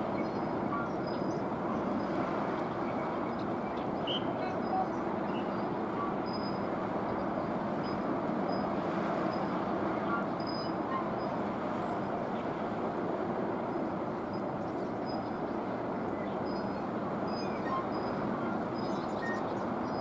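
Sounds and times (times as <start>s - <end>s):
harbour background noise: 0.0s - 20.0s.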